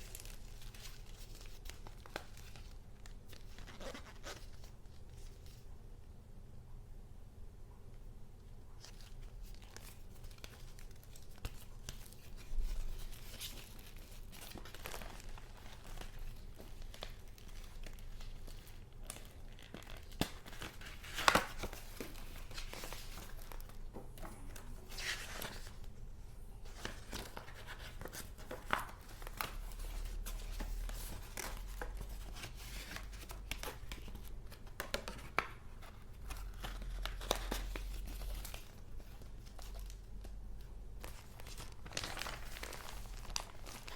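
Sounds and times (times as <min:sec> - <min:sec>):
paper rustling and crinkling: 0:00.0 - 0:05.7, 0:08.7 - 0:26.0, 0:26.6 - 0:43.9.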